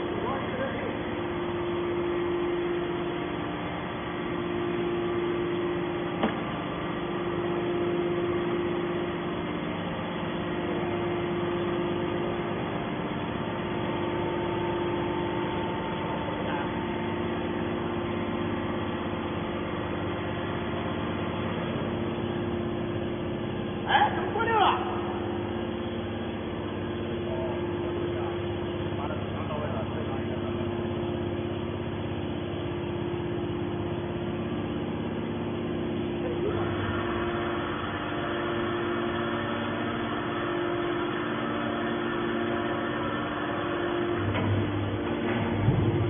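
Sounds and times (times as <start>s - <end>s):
hydraulic power unit humming: 0.0s - 46.0s.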